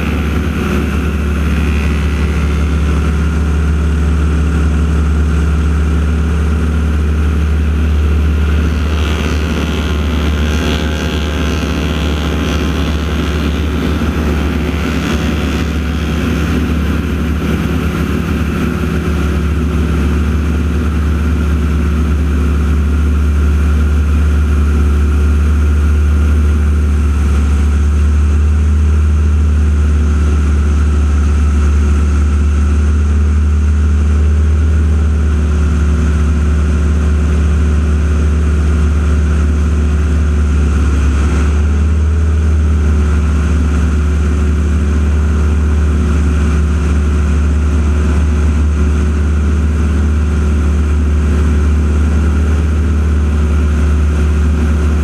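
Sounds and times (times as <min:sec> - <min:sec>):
propeller aircraft engines droning: 0:00.0 - 0:55.0.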